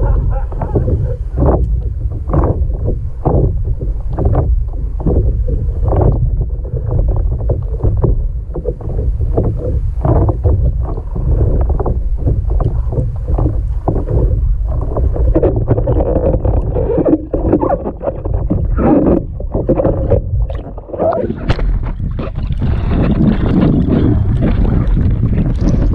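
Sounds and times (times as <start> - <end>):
knocks and splashes: 0.0 - 25.9
low rumble: 0.0 - 25.9
muffled water sloshing: 0.0 - 25.9.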